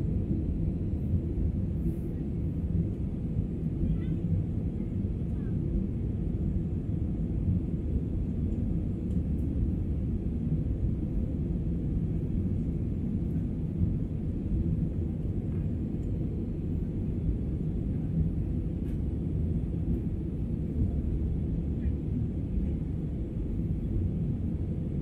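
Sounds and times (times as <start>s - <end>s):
airflow over fuselage: 0.0s - 25.0s
jet engine noise: 0.0s - 25.0s.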